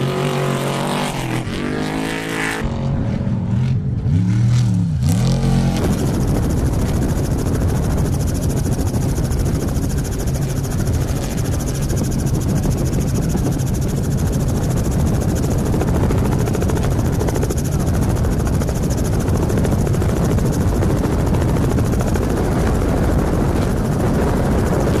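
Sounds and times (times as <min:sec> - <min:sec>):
helicopter rotor drone: 0:00.0 - 0:25.0.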